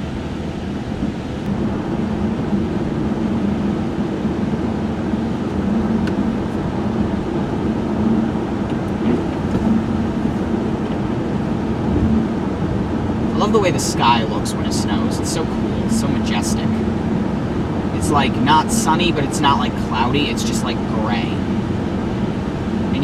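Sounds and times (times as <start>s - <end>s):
car cabin engine and tyre drone: 0.0s - 23.0s.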